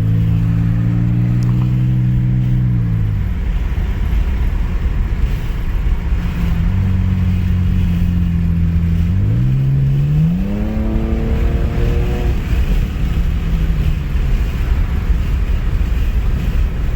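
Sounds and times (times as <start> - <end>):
car exhaust droning: 0.0 - 16.9.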